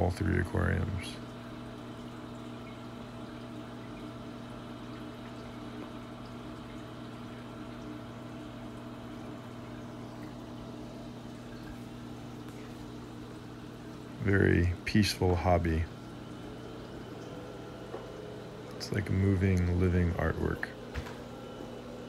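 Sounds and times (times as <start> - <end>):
low pump hum: 0.0 - 22.0
water flowing in aquarium: 0.0 - 22.0.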